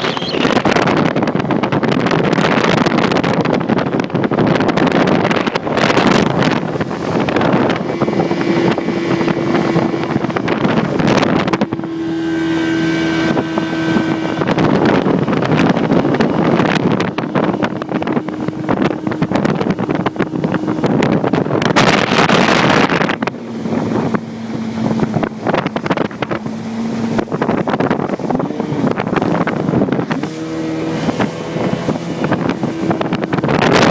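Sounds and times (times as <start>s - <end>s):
outboard motor running: 0.0s - 33.9s
wind buffeting microphone: 0.0s - 33.9s.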